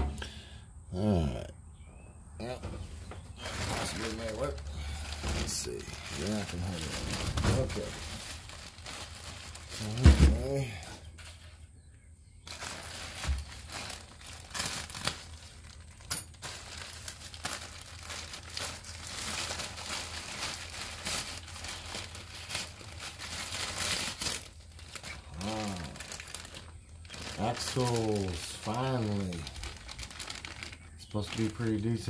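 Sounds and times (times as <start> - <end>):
plastic mailer crinkling and tearing: 3.3 - 10.7, 12.4 - 32.0.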